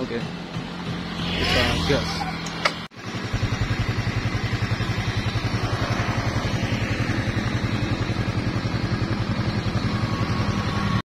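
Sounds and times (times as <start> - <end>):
road and wind noise: 0.0 - 11.0
vehicle engine pulsing: 0.0 - 11.0.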